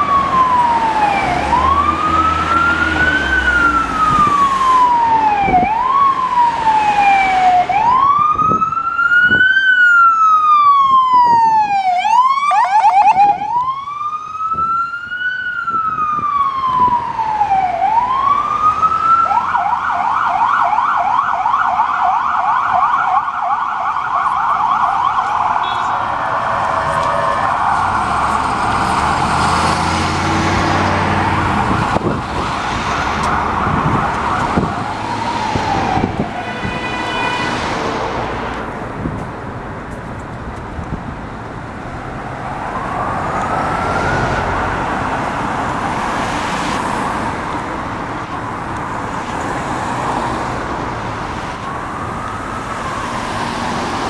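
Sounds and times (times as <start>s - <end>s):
ambulance siren wailing and yelping: 0.0s - 37.6s, 42.5s - 45.9s, 51.4s - 54.0s.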